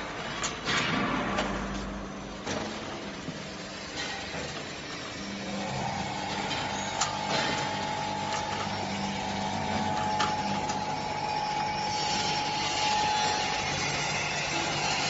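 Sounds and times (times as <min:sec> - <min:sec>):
machine hum with high whine: 0:00.0 - 0:15.0.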